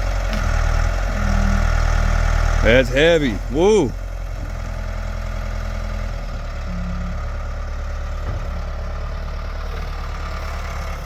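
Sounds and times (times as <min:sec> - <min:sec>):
backhoe diesel engine running: 0:00.0 - 0:11.0
hydraulic whine: 0:00.0 - 0:11.0.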